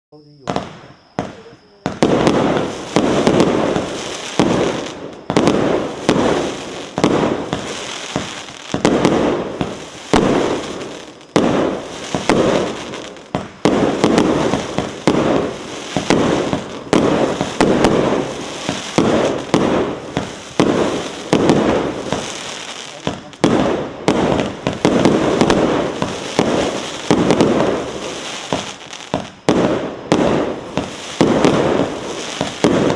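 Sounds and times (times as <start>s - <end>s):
firework battery bangs: 0.5s - 32.9s.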